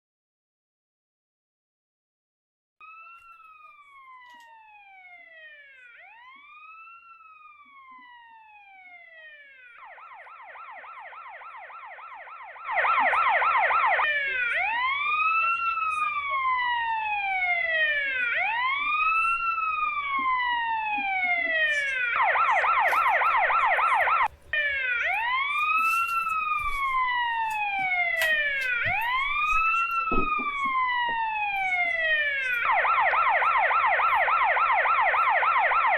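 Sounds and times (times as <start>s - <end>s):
police siren wail and yelp: 2.8s - 35.9s.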